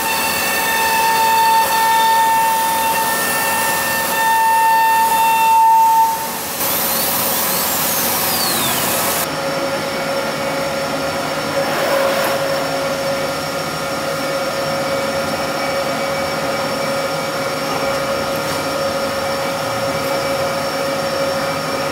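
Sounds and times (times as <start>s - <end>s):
cnc router hum and whine: 0.0s - 21.9s.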